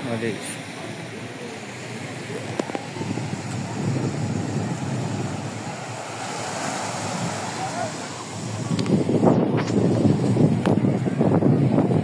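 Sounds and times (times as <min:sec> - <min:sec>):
sea waves washing: 0:00.0 - 0:12.0
wind rumbling on microphone: 0:02.0 - 0:12.0.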